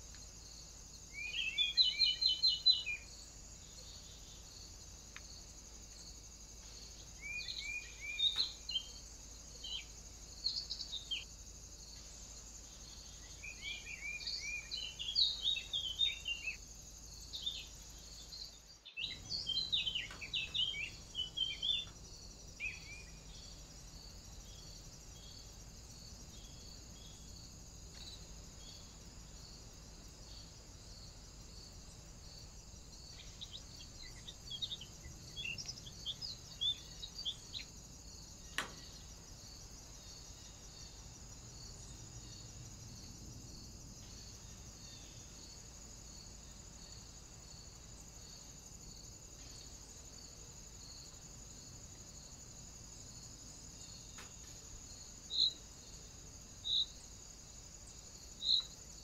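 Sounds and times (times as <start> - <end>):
high insect drone: 0.0 - 59.0
songbird singing: 0.0 - 59.0.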